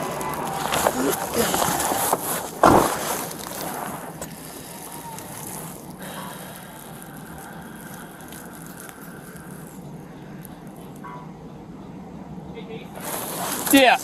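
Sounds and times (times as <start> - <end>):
car engine idling cabin noise: 0.0 - 14.0.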